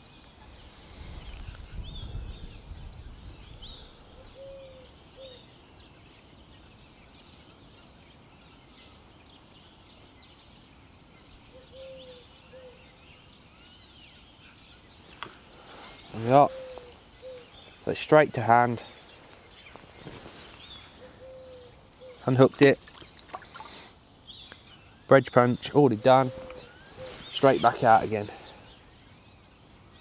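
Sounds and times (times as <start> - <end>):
small birds singing: 0.0 - 30.0.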